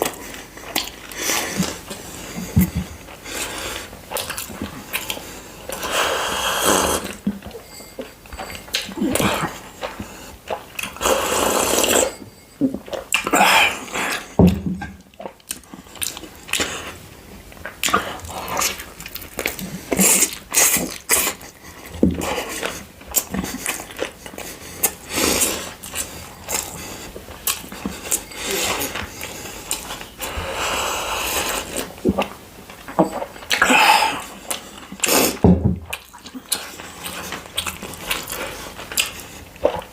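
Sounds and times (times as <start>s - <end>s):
food crunching: 0.0s - 6.0s, 6.9s - 30.4s, 31.3s - 39.9s
wet chewing: 0.0s - 39.9s.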